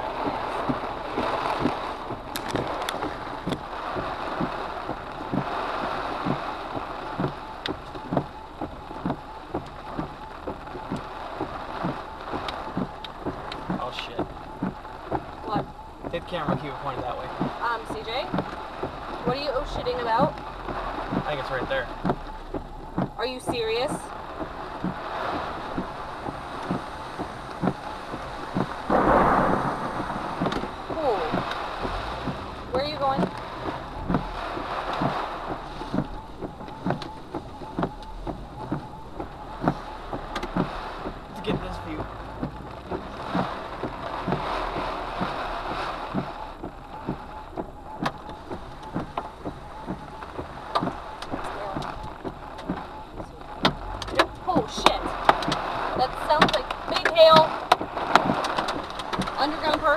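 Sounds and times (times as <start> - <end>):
heavy rain hissing on car: 0.0 - 59.9
raindrops tapping windshield and roof: 0.0 - 59.9.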